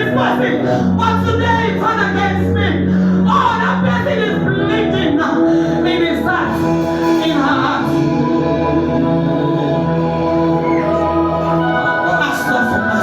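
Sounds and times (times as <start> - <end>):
person singing: 0.0 - 13.0
sustained keyboard chords: 0.0 - 13.0.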